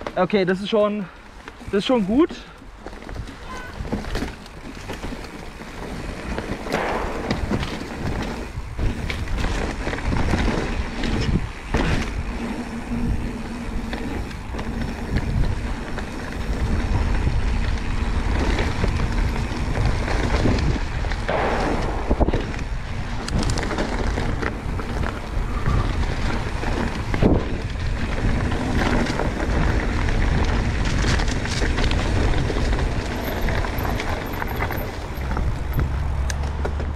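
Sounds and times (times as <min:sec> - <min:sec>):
bike knocking and rattling: 0:00.0 - 0:36.9
bike tyres rolling on dirt: 0:00.0 - 0:36.9
wind rumbling on microphone: 0:02.6 - 0:36.9.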